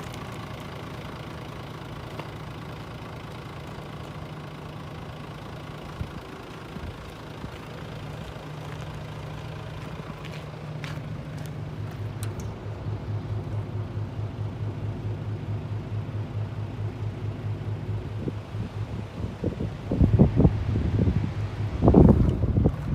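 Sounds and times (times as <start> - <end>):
diesel truck engine idling: 0.0 - 22.9.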